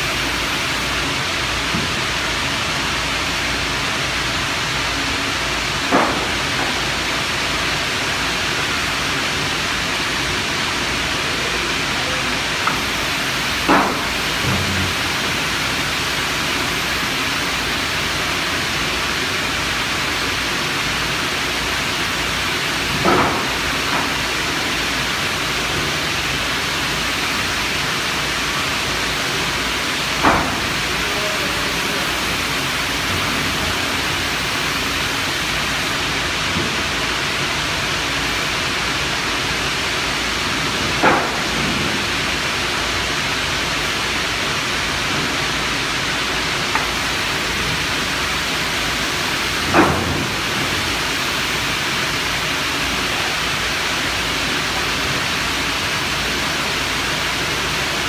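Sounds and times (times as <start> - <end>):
loud industrial hiss: 0.0 - 58.0.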